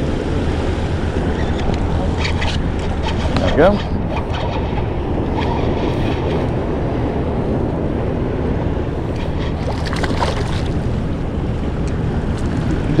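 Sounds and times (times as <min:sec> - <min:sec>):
wind and waves rumble: 0:00.0 - 0:13.0
wind buffeting microphone: 0:00.0 - 0:13.0.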